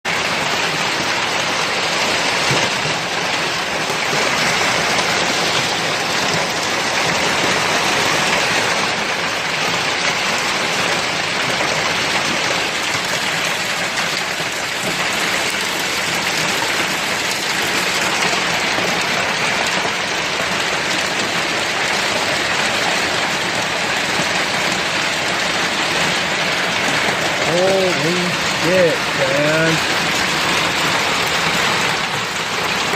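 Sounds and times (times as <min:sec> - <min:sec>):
heavy rain falling: 0:00.1 - 0:32.9.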